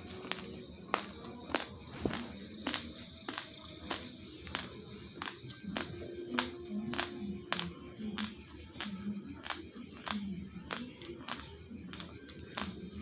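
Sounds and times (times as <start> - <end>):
rice grains crunched by teeth: 0.0 - 12.8.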